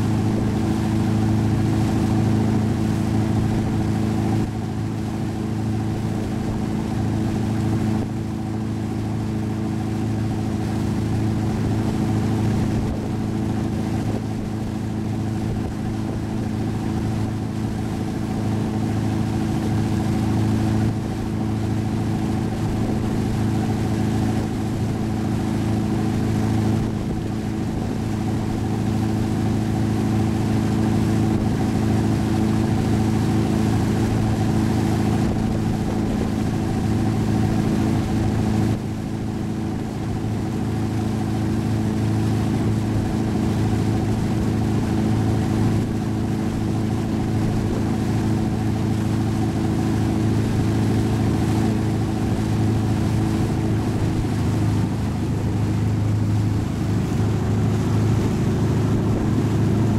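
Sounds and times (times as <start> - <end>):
motorboat engine droning: 0.0 - 59.9
water rushing in wake: 0.0 - 59.9.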